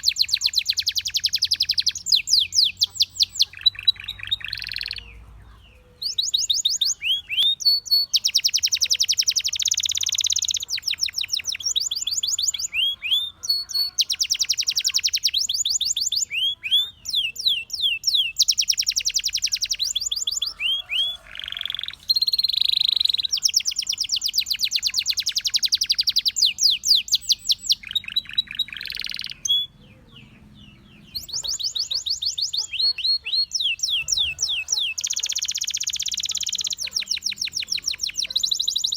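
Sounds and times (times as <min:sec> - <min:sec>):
canary singing in high trills: 0:00.0 - 0:38.9.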